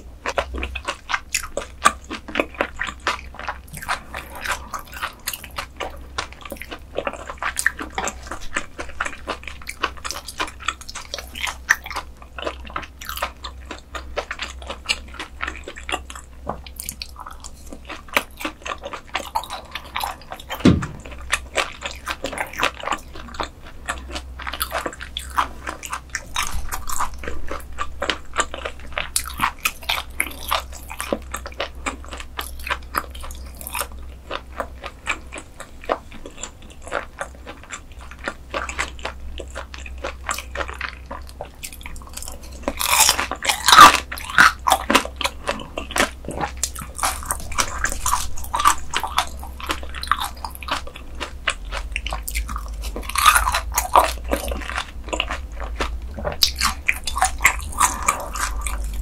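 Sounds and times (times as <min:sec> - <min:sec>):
wet crunchy chewing: 0:00.0 - 0:59.0.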